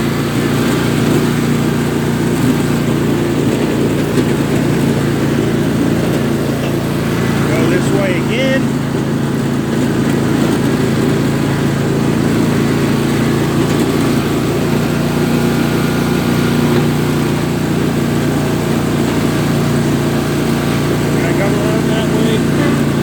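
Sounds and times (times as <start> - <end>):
lawn tractor engine running: 0.0 - 23.0.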